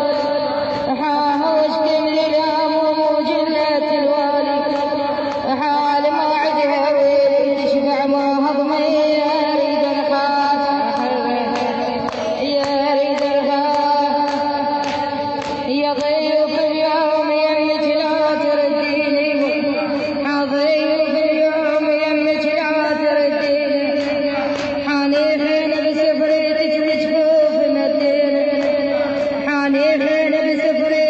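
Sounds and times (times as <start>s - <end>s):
woman chanting: 0.0s - 31.0s.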